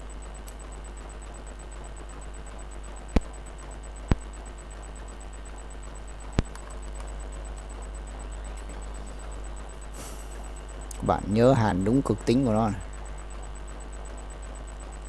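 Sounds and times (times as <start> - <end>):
low mains hum and hiss: 0.0 - 15.0.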